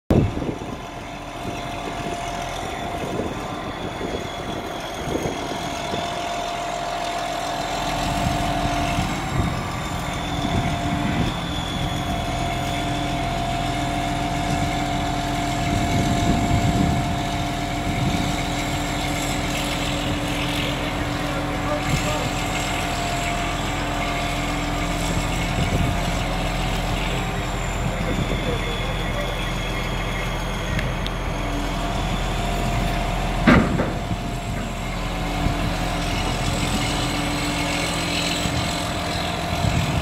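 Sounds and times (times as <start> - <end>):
diesel truck engine running: 0.1 - 40.0
hydraulic whine: 0.1 - 40.0.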